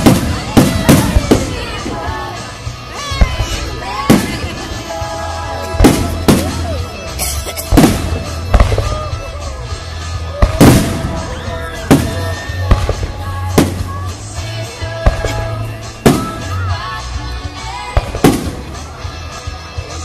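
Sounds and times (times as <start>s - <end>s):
fireworks bangs: 0.0s - 7.1s, 7.7s - 19.1s
music: 0.0s - 20.0s.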